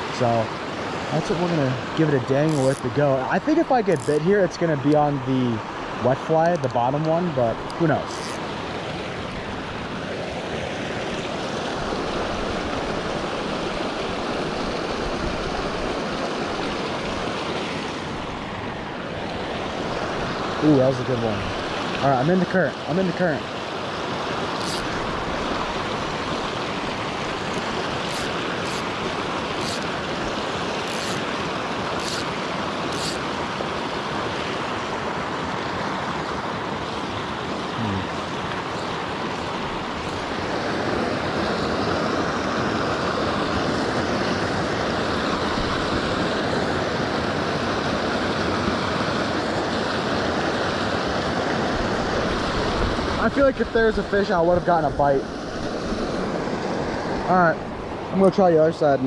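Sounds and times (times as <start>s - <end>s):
water rushing through spillway: 0.0s - 59.0s.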